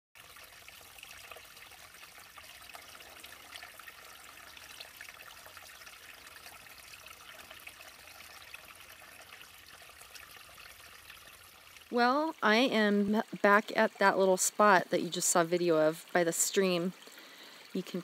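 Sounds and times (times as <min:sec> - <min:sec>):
stream trickling and babbling: 0:00.2 - 0:18.0.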